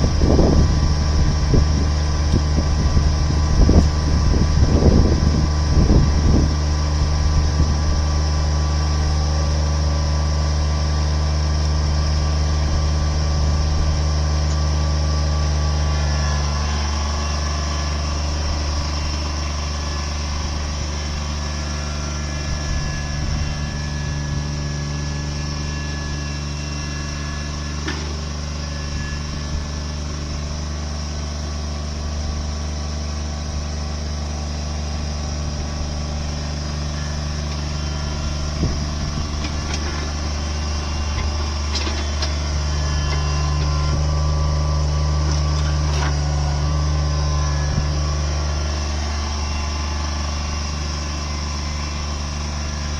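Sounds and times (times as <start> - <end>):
heavy machinery engine running: 0.0 - 52.9.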